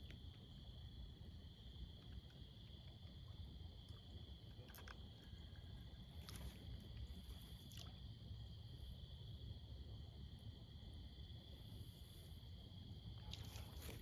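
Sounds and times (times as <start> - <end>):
steady high-pitched hum: 0.0 - 14.0.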